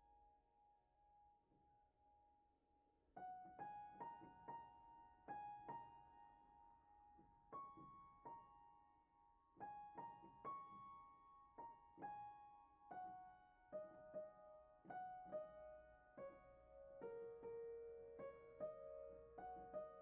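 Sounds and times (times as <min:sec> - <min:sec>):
quiet piano melody: 0:00.0 - 0:20.0.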